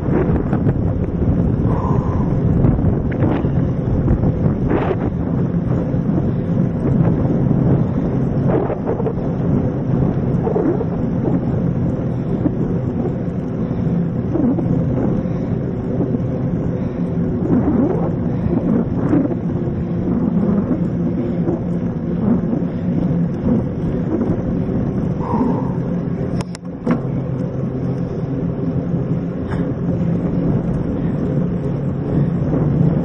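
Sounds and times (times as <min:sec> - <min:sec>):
bike tyres rumbling on dirt: 0:00.0 - 0:33.0
wind on microphone: 0:00.0 - 0:33.0.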